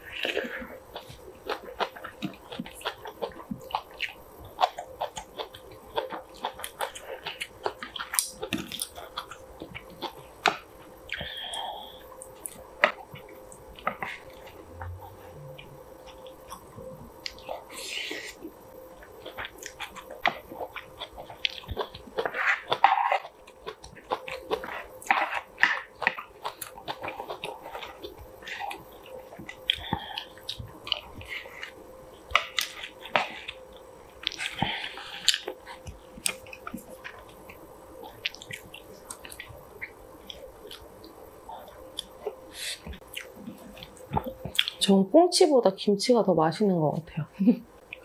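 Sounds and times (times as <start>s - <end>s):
close chewing and mouth noises: 0.0s - 44.9s.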